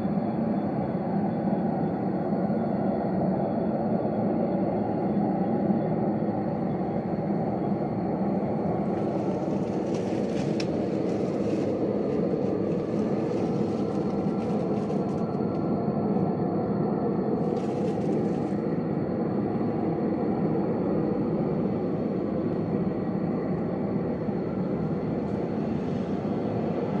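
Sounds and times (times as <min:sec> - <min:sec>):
droning rumble from sky: 0:00.0 - 0:27.0.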